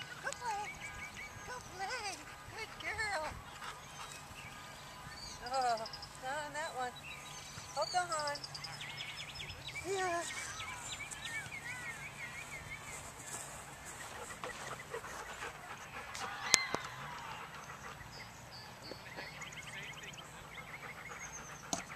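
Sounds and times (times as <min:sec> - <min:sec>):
birds chirping and trilling: 0:00.0 - 0:21.9.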